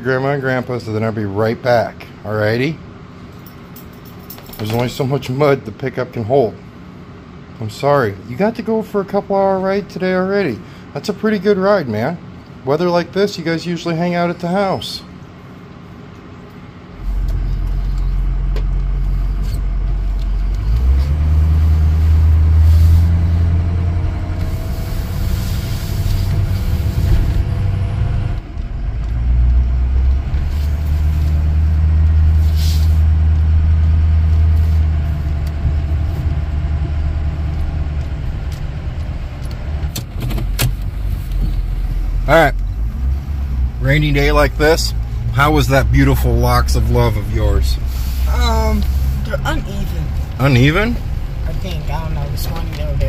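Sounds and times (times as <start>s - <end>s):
diesel engine driving: 0.0s - 53.0s
faint engine whine: 0.0s - 53.0s.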